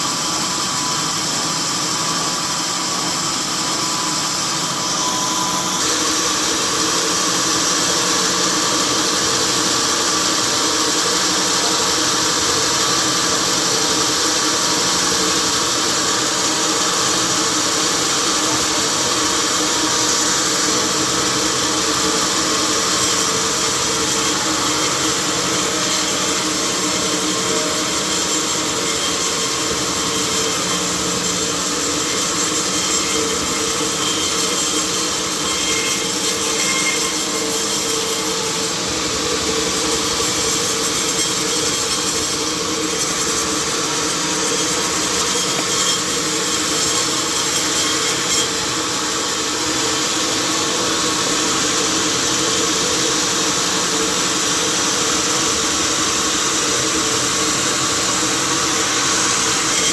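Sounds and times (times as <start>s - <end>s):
saw hissing: 0.0s - 59.9s.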